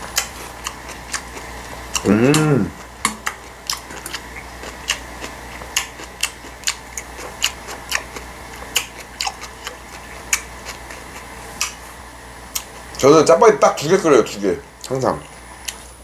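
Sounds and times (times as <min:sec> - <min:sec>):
person chewing noodles: 0:00.0 - 0:13.0, 0:14.7 - 0:16.0.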